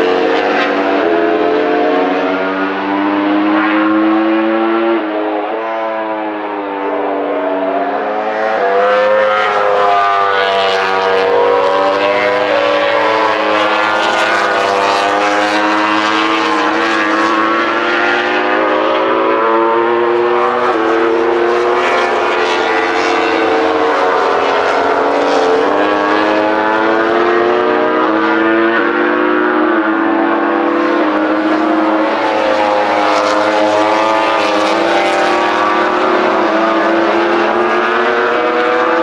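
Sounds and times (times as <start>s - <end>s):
racing motorcycle engines: 0.0s - 39.0s.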